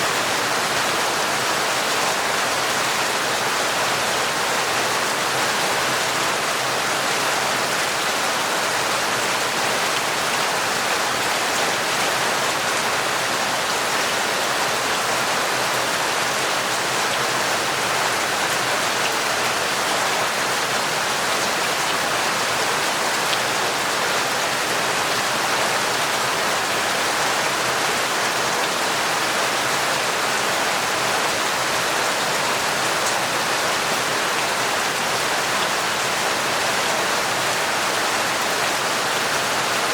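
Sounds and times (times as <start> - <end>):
torrential rain: 0.0 - 39.9.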